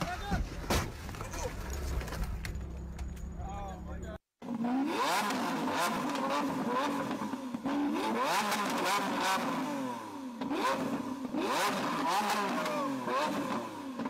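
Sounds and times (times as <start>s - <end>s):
car engine revving: 1.6s - 14.0s.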